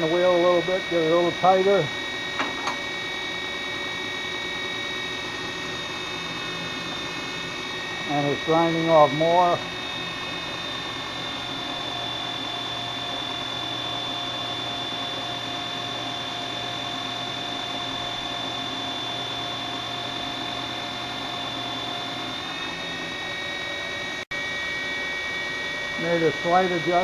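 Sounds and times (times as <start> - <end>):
belt grinder whining: 0.0 - 24.2, 25.3 - 27.0.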